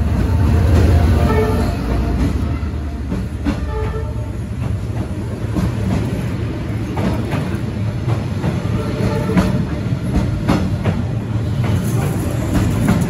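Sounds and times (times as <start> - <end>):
train coaches rolling past: 0.0 - 13.0
wheels clacking on rails: 0.0 - 13.0.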